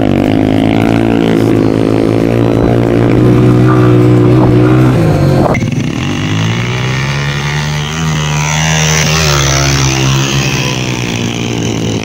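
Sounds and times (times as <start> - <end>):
motorcycle engines at full throttle: 0.0 - 12.0.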